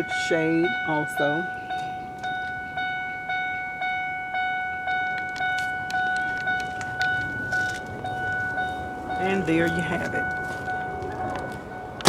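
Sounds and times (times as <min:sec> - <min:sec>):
vehicle warning chime dinging: 0:00.0 - 0:12.0.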